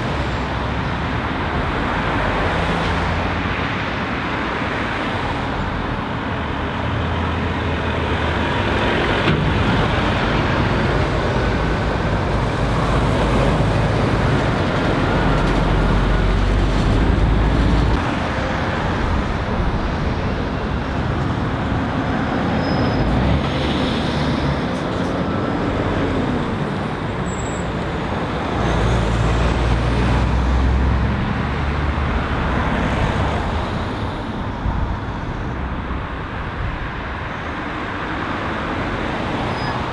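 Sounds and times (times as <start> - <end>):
cars and lorries passing: 0.0 - 39.9.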